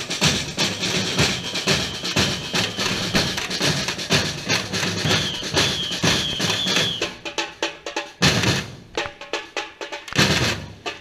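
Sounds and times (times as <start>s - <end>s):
marching drum band: 0.0s - 11.0s.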